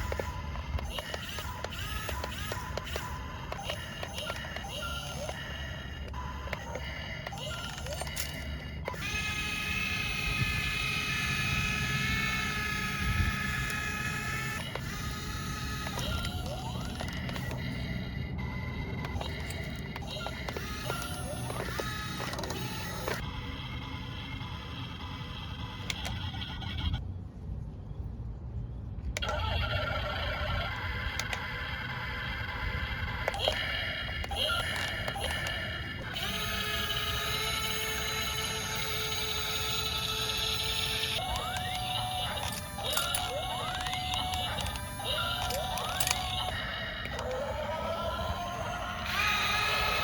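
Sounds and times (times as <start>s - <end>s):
small electric motor whining: 0.0s - 27.0s, 29.2s - 50.0s.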